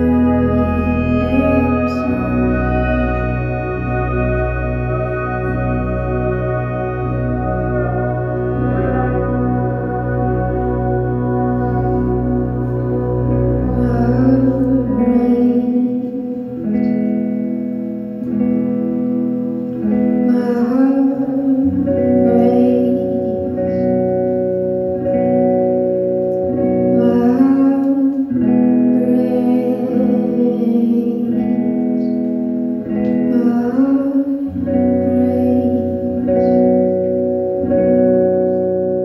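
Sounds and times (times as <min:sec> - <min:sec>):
electric guitar: 0:00.0 - 0:39.0
held keyboard chords: 0:00.0 - 0:39.0.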